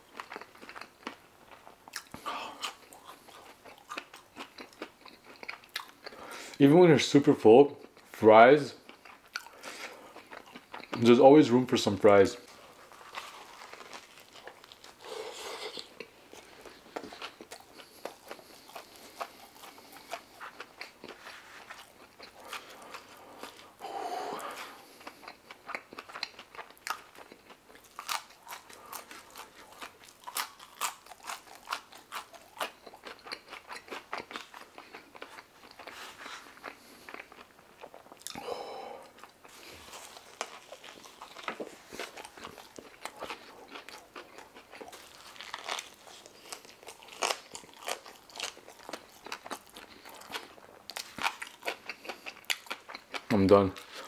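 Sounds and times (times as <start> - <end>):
close chewing and mouth smacks: 0.0 - 6.6, 8.8 - 11.3, 12.4 - 54.0.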